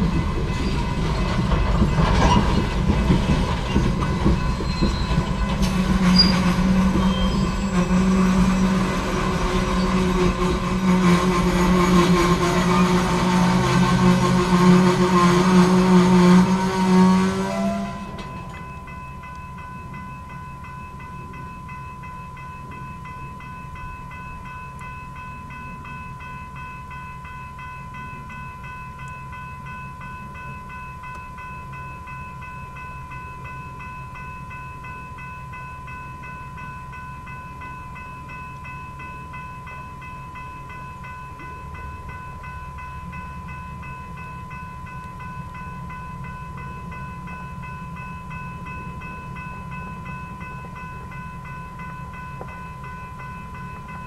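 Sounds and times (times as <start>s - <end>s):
crossing warning bell ringing: 0.0s - 54.0s
low rumble of train: 0.0s - 54.0s.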